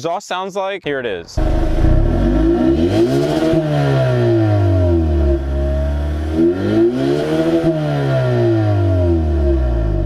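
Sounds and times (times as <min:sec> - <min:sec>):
car engine revving: 0:01.4 - 0:10.0.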